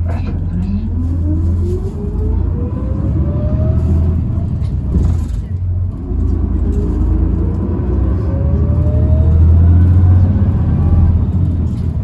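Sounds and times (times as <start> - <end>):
bus interior low rumble: 0.0 - 12.0.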